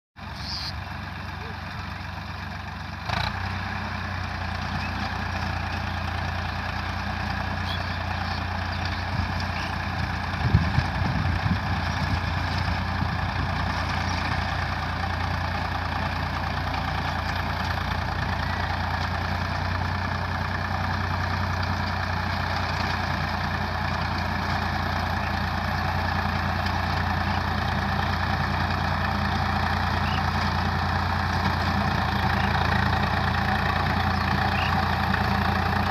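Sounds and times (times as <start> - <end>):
tractor diesel engine running: 0.2 - 35.9.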